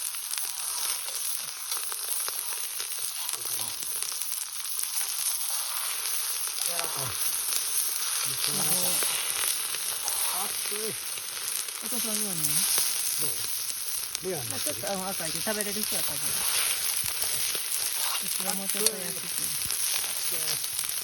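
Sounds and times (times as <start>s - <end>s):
steak sizzling over a fire: 0.0s - 21.0s.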